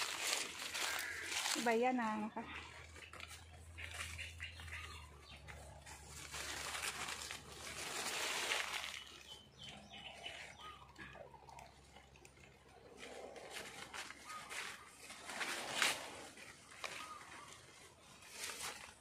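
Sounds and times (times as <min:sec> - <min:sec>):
leaves and twigs rustling: 0:00.0 - 0:19.0.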